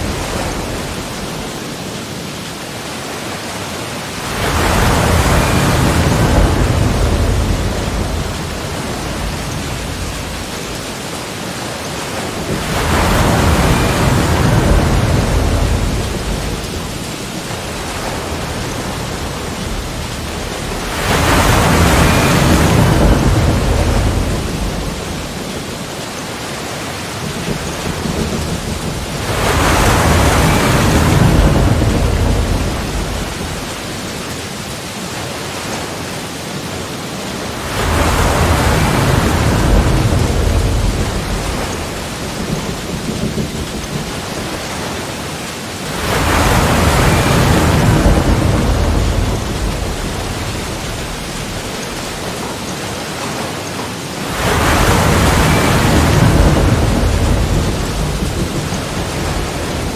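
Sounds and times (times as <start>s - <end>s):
sea waves breaking: 0.0s - 59.9s
steady hiss of water: 0.0s - 59.9s.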